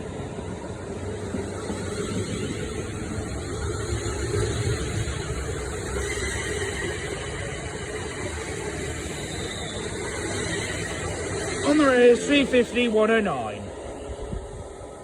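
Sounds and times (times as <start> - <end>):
electric train running rumble: 0.0 - 15.0.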